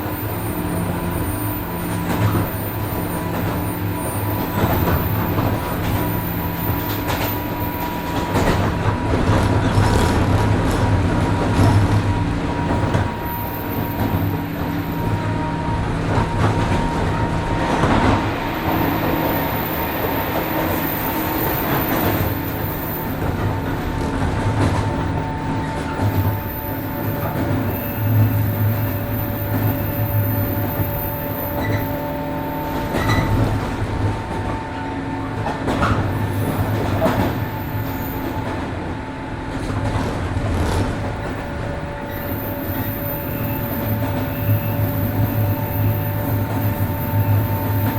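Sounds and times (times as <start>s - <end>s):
electric train motor whine: 0.0s - 39.5s, 41.3s - 47.9s
wheels rumbling on rails: 0.0s - 47.9s.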